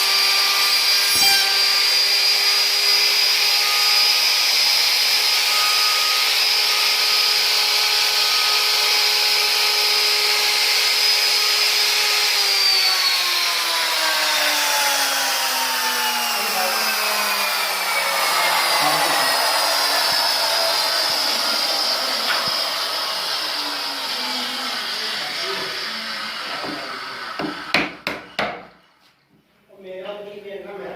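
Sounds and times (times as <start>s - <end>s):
power tool motor whining: 0.0s - 28.0s.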